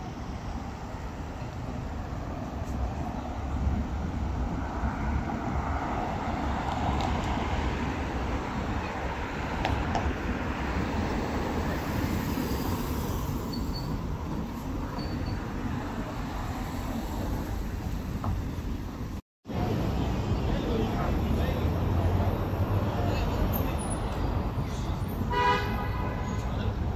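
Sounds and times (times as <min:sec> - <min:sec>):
passing vehicles rumble and hiss: 0:00.0 - 0:26.9.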